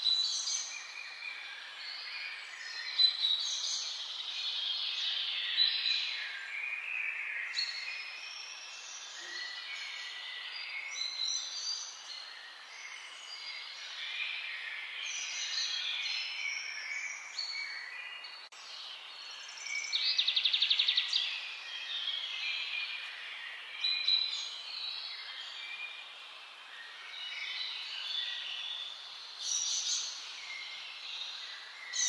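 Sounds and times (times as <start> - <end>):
songbirds chirping and whistling: 0.0 - 32.0.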